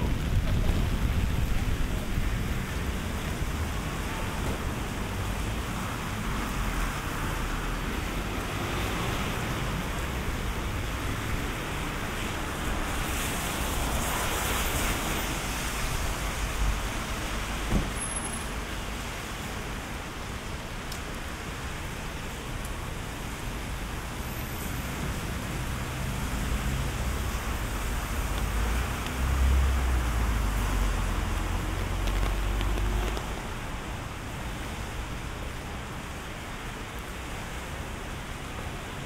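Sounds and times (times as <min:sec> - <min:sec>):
rain: 0:00.0 - 0:39.0
traffic on wet streets: 0:00.0 - 0:39.0.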